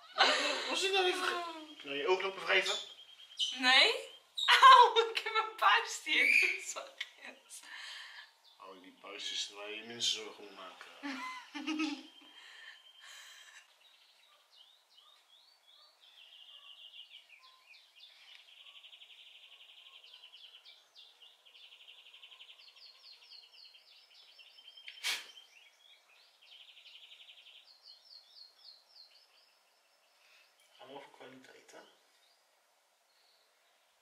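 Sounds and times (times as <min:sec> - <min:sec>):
songbird chirping and trilling: 0:00.0 - 0:34.0.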